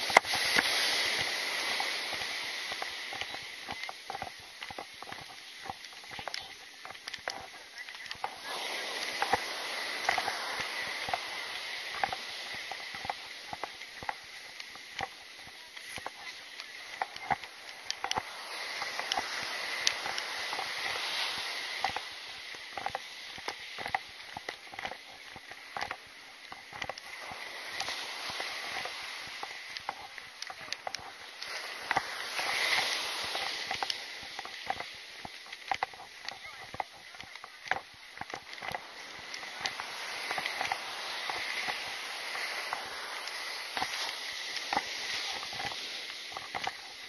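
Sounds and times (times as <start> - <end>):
ocean surf hissing: 0.0 - 47.0.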